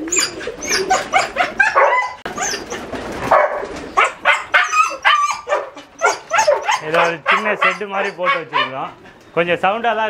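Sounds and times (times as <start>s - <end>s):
dogs barking rapidly: 0.1s - 9.1s.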